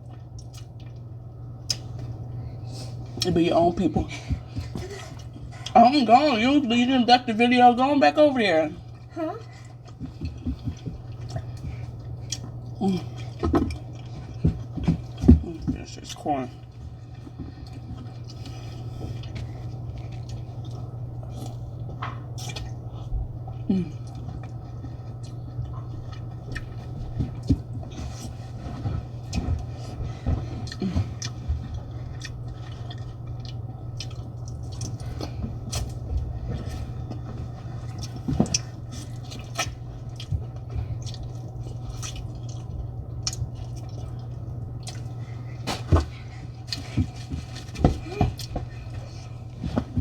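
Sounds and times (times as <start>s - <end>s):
wet chewing: 0.0s - 3.3s, 8.8s - 50.0s
steady low hum: 0.0s - 50.0s.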